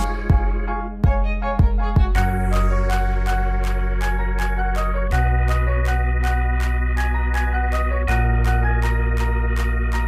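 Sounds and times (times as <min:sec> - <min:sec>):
held bass notes: 0:00.0 - 0:10.0
organ-like keyboard melody: 0:00.0 - 0:10.0
steady beat: 0:00.0 - 0:10.0.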